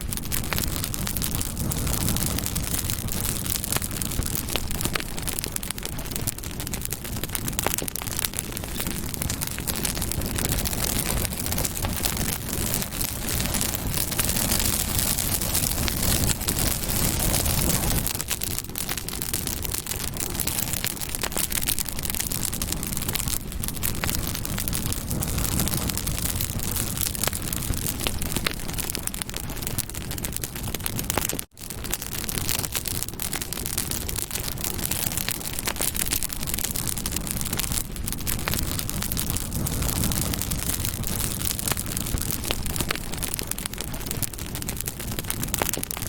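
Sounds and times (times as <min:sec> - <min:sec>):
burning wood crackling and popping: 0:00.0 - 0:46.0
campfire flames rushing: 0:00.0 - 0:46.0.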